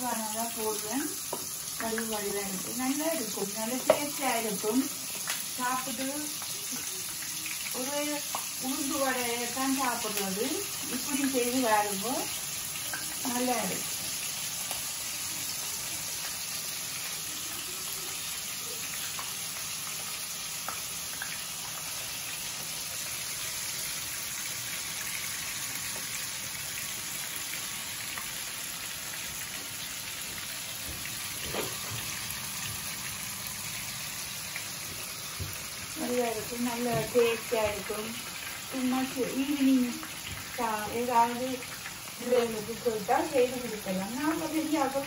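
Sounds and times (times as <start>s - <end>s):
food deep-frying in oil: 0.0s - 45.0s.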